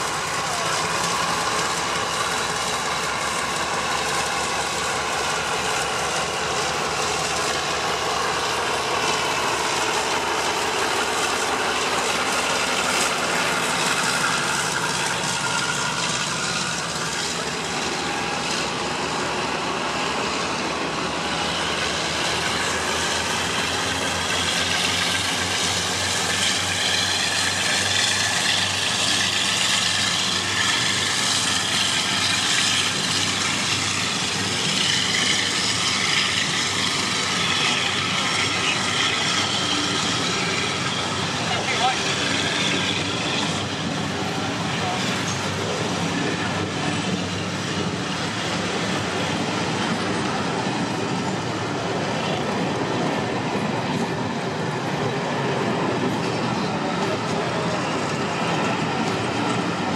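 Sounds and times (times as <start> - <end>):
diesel locomotive passing: 0.0 - 59.9.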